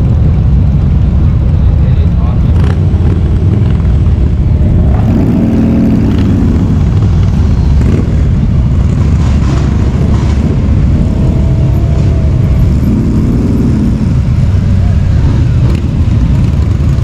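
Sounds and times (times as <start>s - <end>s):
many motorcycle engines rumbling: 0.0s - 17.0s
motorcycle passing close: 2.5s - 17.0s.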